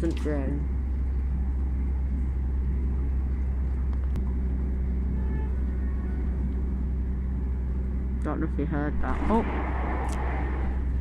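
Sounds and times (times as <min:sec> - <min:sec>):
train rumbling at speed: 0:00.6 - 0:11.0.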